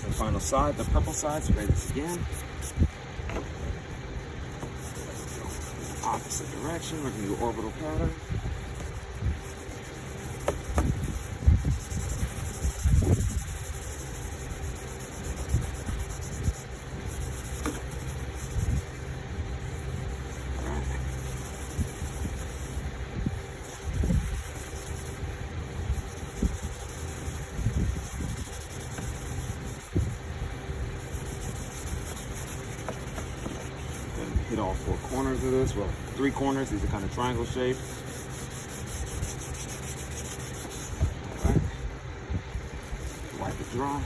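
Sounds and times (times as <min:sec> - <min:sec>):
wet sandpaper rubbing on plastic: 0:00.0 - 0:02.9, 0:04.2 - 0:41.8, 0:42.4 - 0:44.0
low steady rumble: 0:00.0 - 0:44.0.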